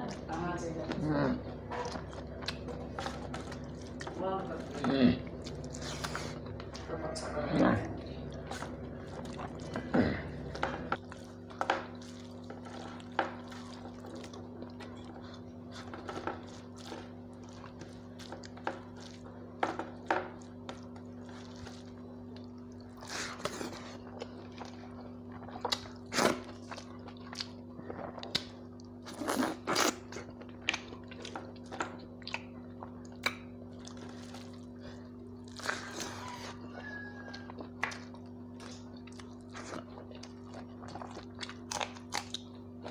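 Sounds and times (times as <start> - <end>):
person chewing and crunching: 0.0 - 42.9
steady low hum: 0.0 - 42.9.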